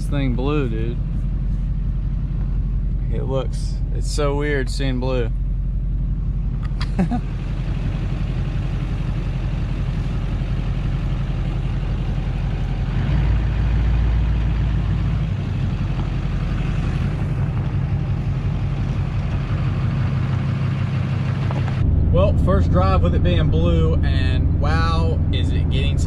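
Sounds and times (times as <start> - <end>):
diesel truck engine droning: 0.0 - 26.0.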